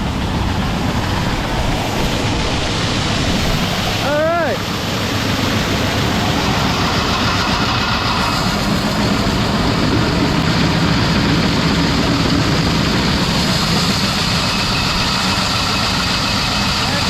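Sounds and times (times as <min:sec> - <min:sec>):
grain augers running: 0:00.0 - 0:17.0.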